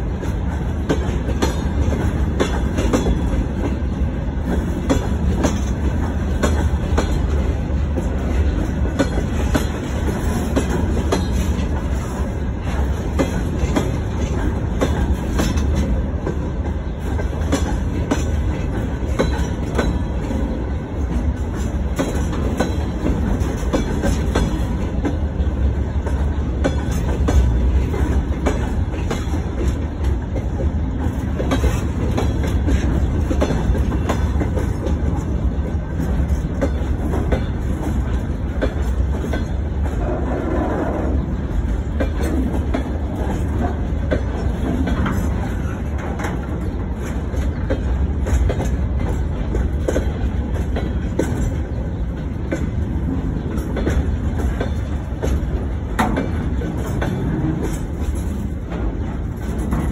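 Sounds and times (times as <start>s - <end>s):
train wheels rumbling on rail: 0.0s - 59.9s
wheels clicking over rail joints: 0.1s - 59.9s.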